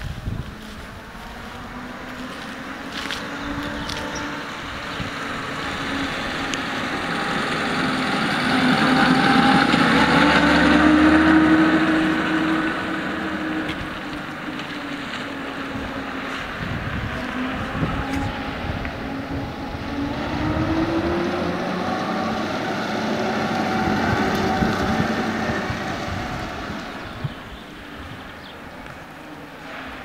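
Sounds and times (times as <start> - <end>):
car driving past: 0.5 - 30.0.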